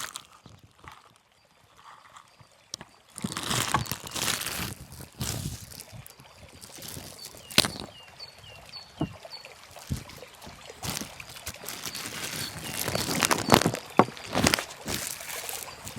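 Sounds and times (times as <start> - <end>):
water sloshing and trickling: 0.0 - 15.9.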